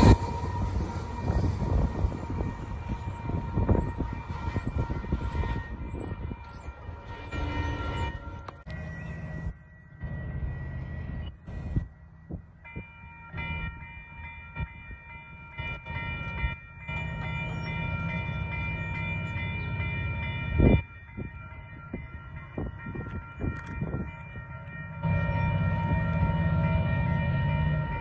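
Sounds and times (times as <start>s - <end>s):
crossing warning bell ringing: 0.0s - 28.0s.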